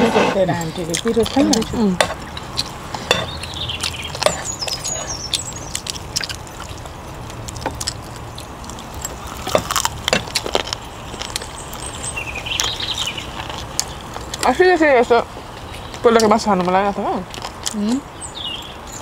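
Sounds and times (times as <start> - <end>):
low steady hum: 0.0 - 19.0
chewing and eating clicks: 0.6 - 14.6, 15.6 - 19.0.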